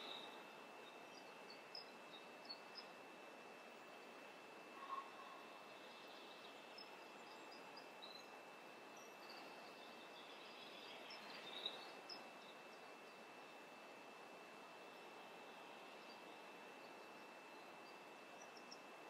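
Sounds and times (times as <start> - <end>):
faint high chirps: 0.0 - 3.1, 4.6 - 19.0
soft hiss: 0.0 - 19.0
thin high whine: 0.0 - 19.0.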